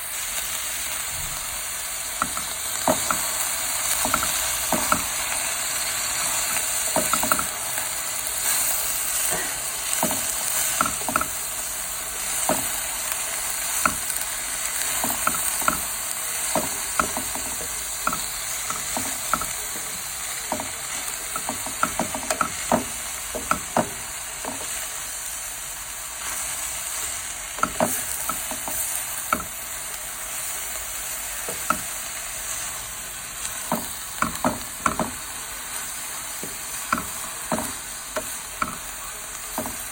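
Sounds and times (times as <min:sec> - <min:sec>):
vegetables sizzling in a pan: 0:00.0 - 0:39.9
spatula scraping and tapping pan: 0:02.1 - 0:25.0, 0:26.2 - 0:29.8, 0:30.4 - 0:39.9.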